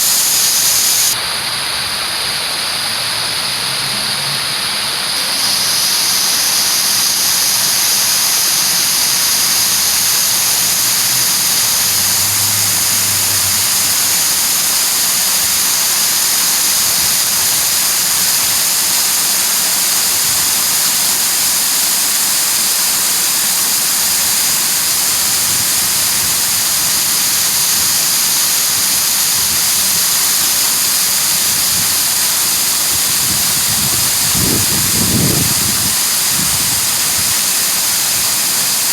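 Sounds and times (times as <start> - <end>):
water pouring down a fountain: 0.0 - 38.9.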